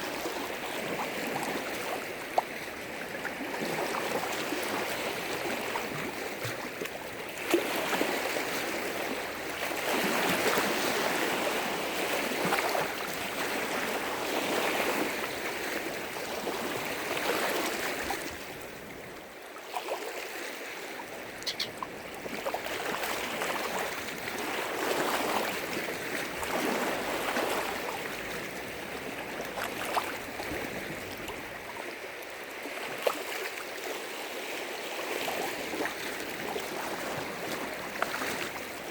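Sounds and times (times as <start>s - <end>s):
lake waves breaking on shore: 0.0s - 38.9s.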